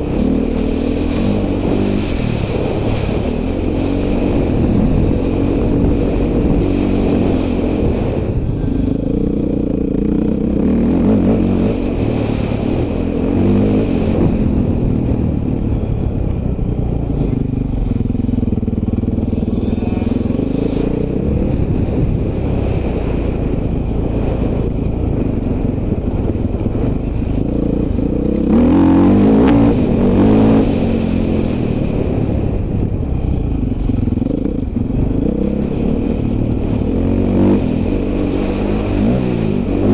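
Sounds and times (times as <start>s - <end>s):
dirt bike engine revving: 0.0s - 39.9s
loud rush of noise: 0.0s - 39.9s.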